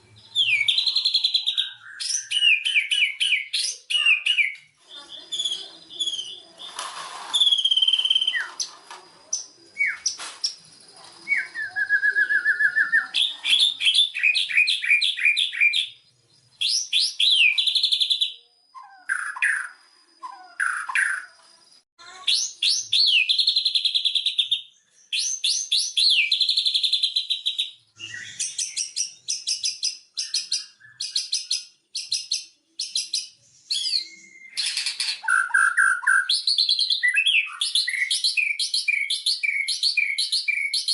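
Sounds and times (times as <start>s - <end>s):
bird singing whistled trills: 0.0s - 10.6s, 11.2s - 40.9s.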